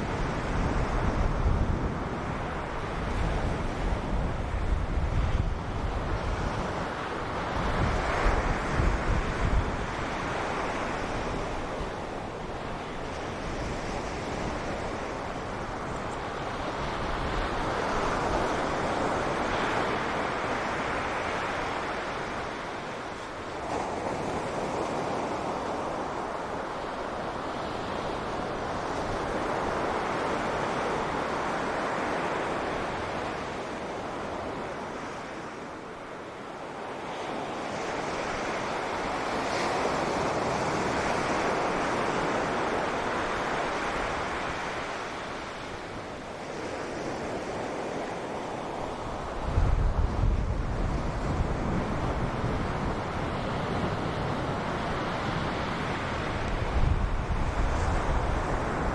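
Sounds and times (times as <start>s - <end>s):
sea waves washing onto beach: 0.0s - 58.9s.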